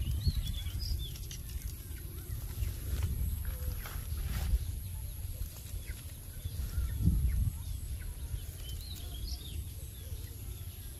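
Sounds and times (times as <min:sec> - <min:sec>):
faint bird chirps: 0:00.0 - 0:10.9
wind rumble on microphone: 0:00.0 - 0:10.9.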